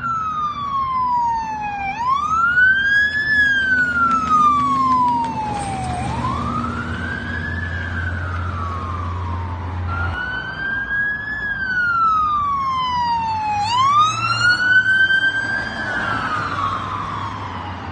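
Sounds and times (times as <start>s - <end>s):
low vehicle engine hum: 0.0s - 17.9s
siren wailing: 0.0s - 17.9s.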